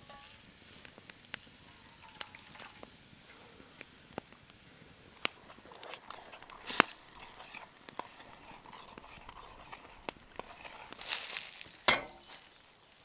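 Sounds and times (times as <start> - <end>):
campfire crackling: 0.0 - 13.0
fire pops: 0.0 - 13.0.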